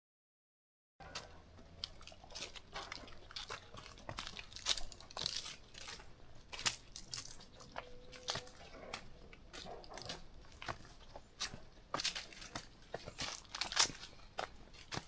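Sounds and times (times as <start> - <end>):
footsteps crunching on leafy trail: 1.0 - 15.0.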